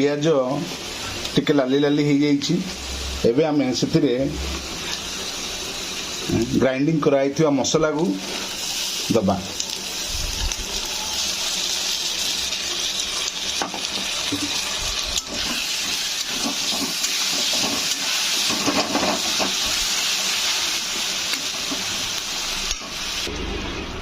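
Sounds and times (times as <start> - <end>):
paste sizzling in hot oil: 0.0 - 23.3.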